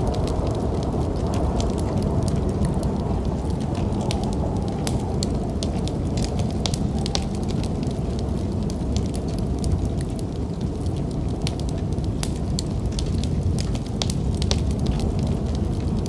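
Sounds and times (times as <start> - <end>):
snowstorm wind rumble: 0.0 - 16.0
wood fire crackling and popping: 0.0 - 16.0.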